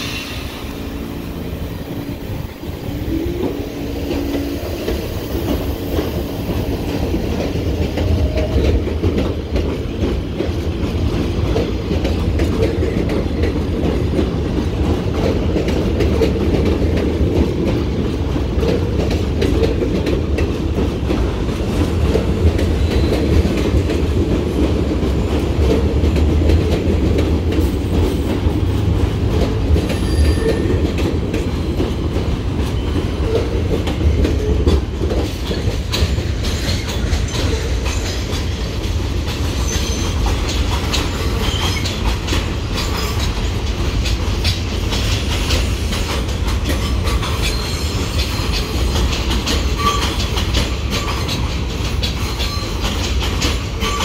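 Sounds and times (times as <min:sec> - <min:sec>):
rail joints clickety-clack: 0:00.0 - 0:54.0
train wheels rumbling on rails: 0:00.0 - 0:54.0.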